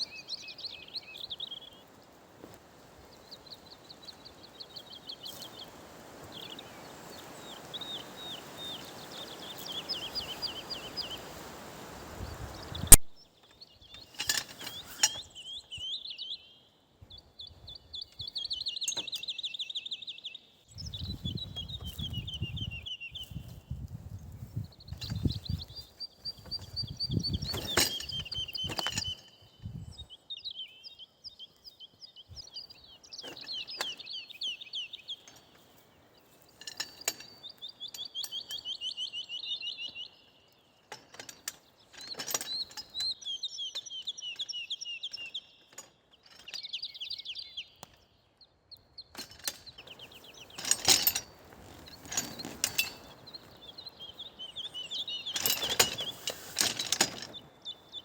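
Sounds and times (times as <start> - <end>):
songbird trilling: 3.1 - 11.4, 12.2 - 40.9, 41.7 - 56.5.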